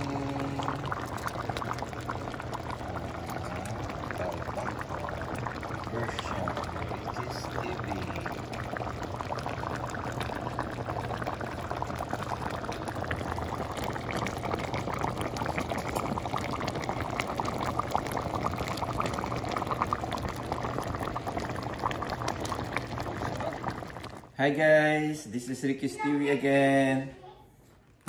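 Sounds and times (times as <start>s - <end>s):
low steady hum: 0.0s - 24.4s
stew bubbling: 0.0s - 24.4s.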